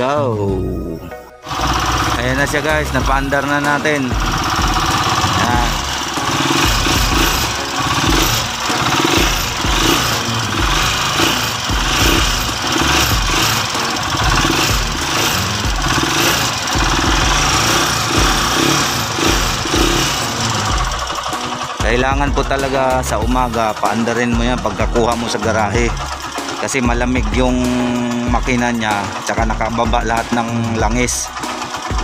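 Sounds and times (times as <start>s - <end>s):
motorcycle engine running: 1.4s - 32.0s.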